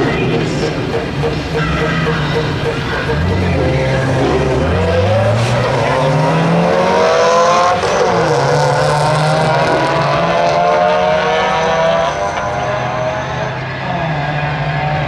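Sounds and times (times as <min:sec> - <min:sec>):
drag racing cars accelerating: 0:00.0 - 0:15.0.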